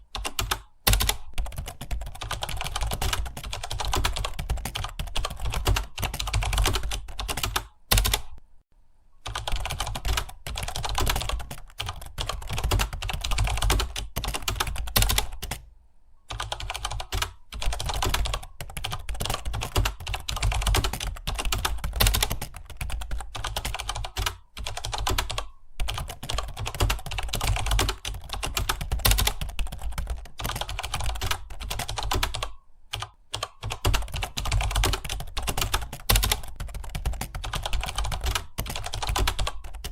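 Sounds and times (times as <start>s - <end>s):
fast keyboard typing: 0.0s - 8.4s, 9.2s - 15.6s, 16.3s - 39.9s.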